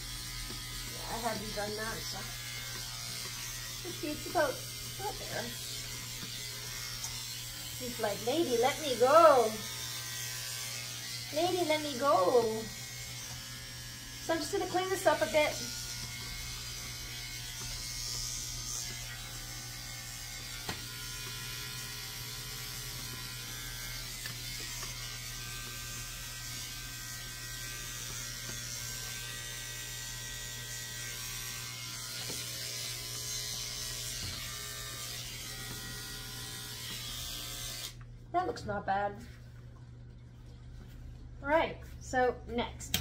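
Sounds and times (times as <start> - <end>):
electric clipper running: 0.0 - 38.0.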